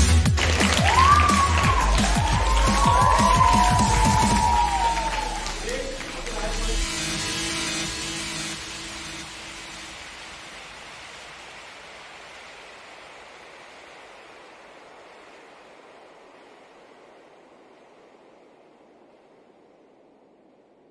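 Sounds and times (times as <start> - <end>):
steady rushing noise: 1.7 - 20.9.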